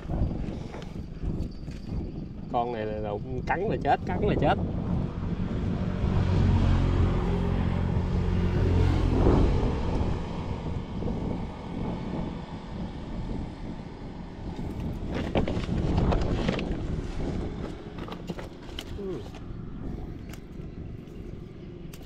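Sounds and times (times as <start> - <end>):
wind buffeting microphone: 0.0 - 22.0
boat engine humming: 4.1 - 22.0.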